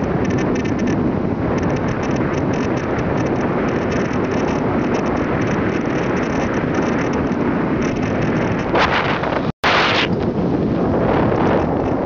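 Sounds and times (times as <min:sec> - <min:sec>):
motorbike running: 0:00.0 - 0:12.0
road noise: 0:00.0 - 0:12.0
wind noise on microphone: 0:00.0 - 0:12.0.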